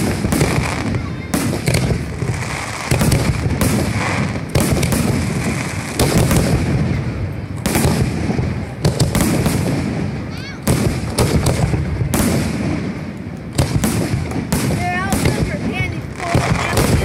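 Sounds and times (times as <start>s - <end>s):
firework shells bursting: 0.0s - 17.0s.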